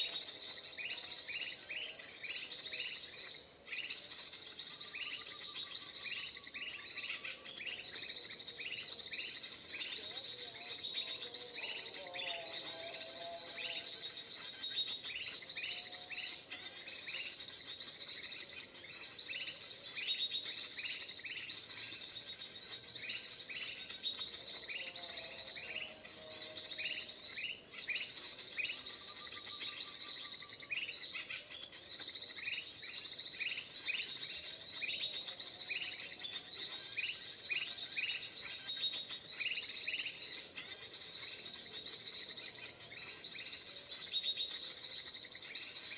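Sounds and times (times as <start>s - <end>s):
bird chirping: 0.0s - 45.9s.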